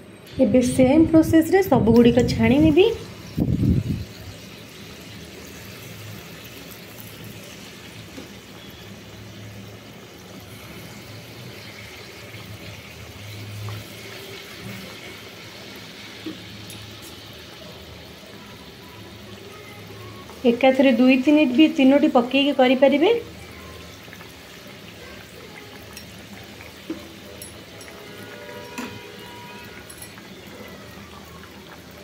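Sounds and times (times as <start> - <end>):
batter sizzling and bubbling in oil: 1.4 - 32.0.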